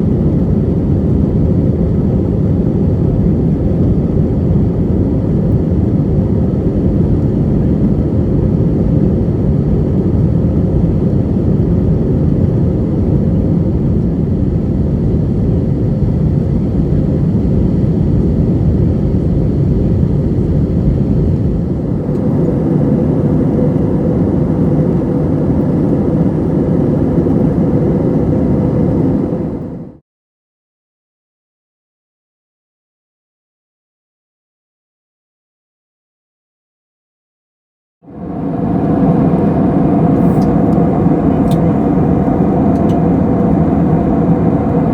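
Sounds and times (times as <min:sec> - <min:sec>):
faint hum: 0:00.0 - 0:30.0, 0:38.1 - 0:44.9
jet cabin engine rush: 0:00.0 - 0:30.0, 0:38.0 - 0:44.9.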